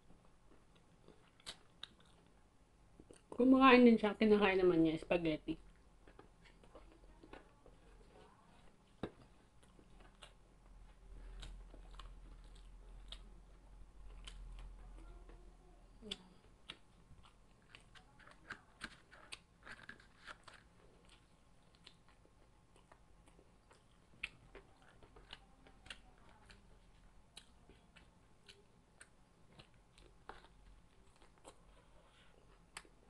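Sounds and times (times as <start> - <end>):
chewing crispy fried chicken: 0.0 - 3.4, 5.6 - 33.0.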